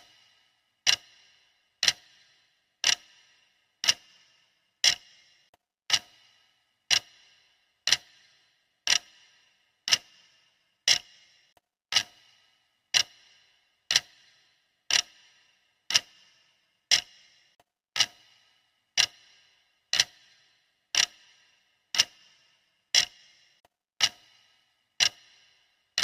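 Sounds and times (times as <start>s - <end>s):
timer ticking: 0.0s - 26.0s.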